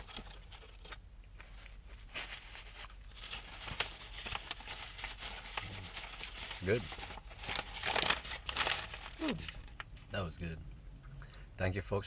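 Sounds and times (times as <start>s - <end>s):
crackling crust while eating: 0.0s - 10.1s.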